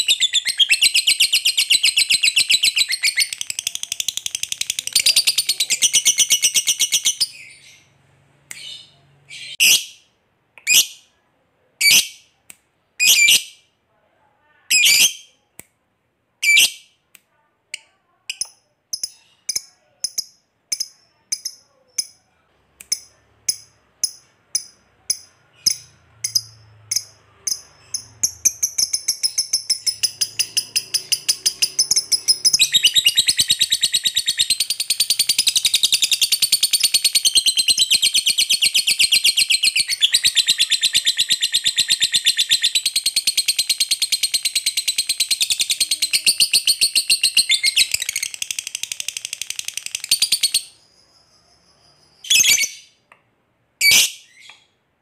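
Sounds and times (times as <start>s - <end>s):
lovebird chirps and trill: 0.0s - 11.1s, 11.8s - 12.3s, 13.0s - 13.7s, 14.7s - 15.4s, 16.4s - 17.0s, 18.3s - 22.3s, 22.9s - 53.0s, 53.8s - 54.8s.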